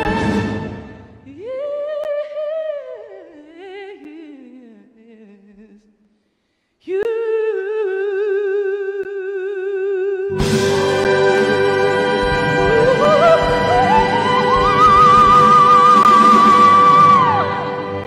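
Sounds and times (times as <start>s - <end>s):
woman singing unaccompanied: 1.2s - 5.9s, 6.8s - 18.0s.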